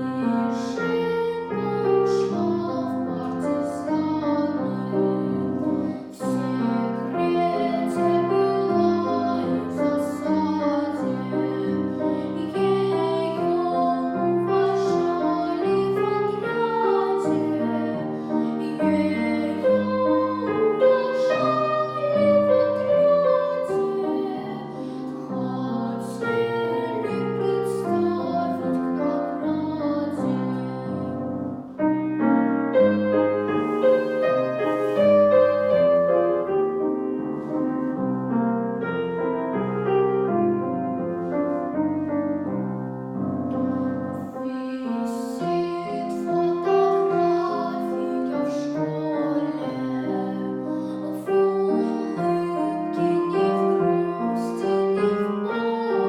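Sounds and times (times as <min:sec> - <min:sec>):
girl singing: 0:00.0 - 0:31.9, 0:32.7 - 0:38.0, 0:43.2 - 0:56.0
piano accompaniment: 0:00.0 - 0:56.0.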